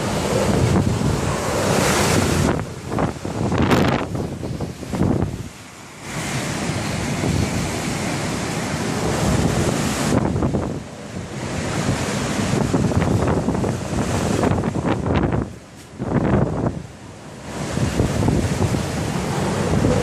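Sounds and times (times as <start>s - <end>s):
wind gusting on microphone: 0.0s - 20.0s.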